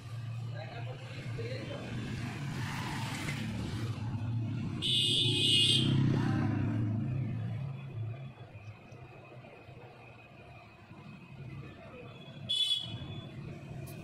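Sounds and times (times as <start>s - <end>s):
road traffic engine drone: 0.0s - 14.0s.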